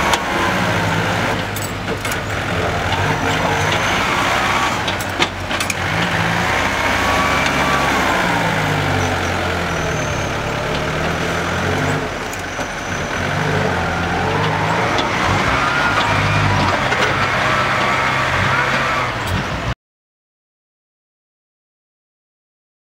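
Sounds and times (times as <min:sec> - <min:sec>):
truck engine revving: 0:00.0 - 0:19.8.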